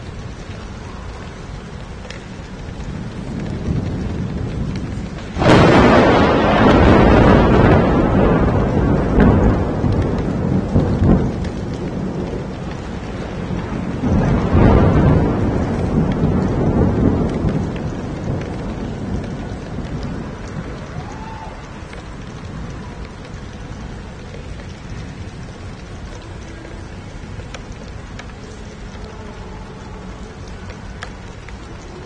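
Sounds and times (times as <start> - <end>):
heavy rain falling: 0.0 - 32.0
rolling thunder: 0.0 - 32.0.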